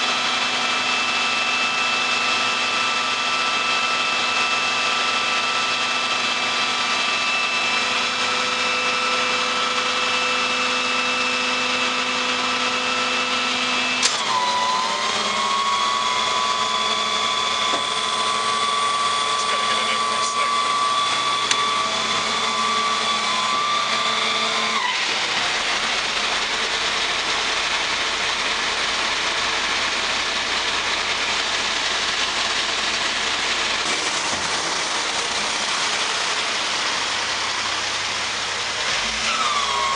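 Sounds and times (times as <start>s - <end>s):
diesel truck engine running: 0.0s - 39.9s
hydraulic whine: 0.0s - 39.9s.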